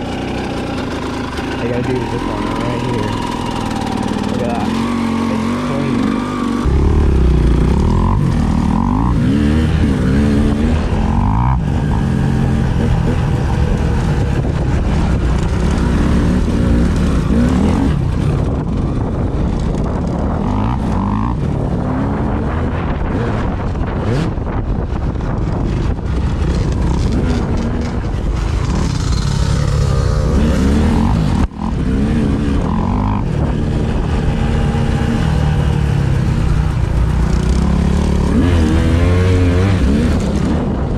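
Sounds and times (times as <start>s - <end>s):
vehicle engine accelerating: 0.0s - 40.9s
wind noise on microphone: 6.1s - 40.9s.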